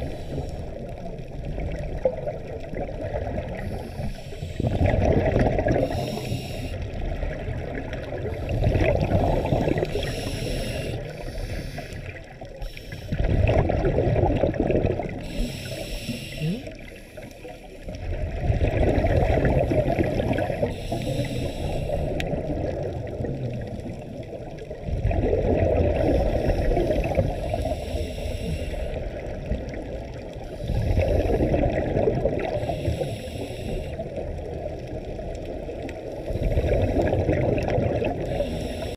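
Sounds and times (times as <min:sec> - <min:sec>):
underwater bubbles gurgling: 0:00.0 - 0:38.9.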